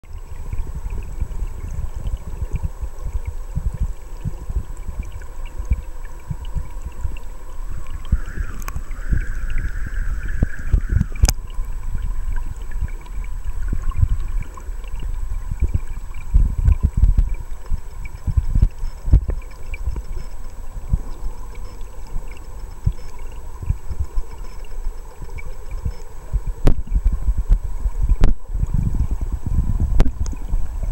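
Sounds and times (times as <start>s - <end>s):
muffled underwater river rumble: 0.0s - 30.9s.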